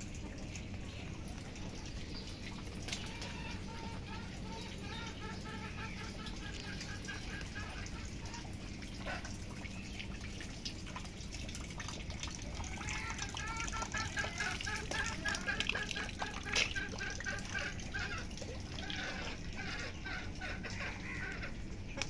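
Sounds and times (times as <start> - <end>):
steady water noise: 0.0 - 22.0.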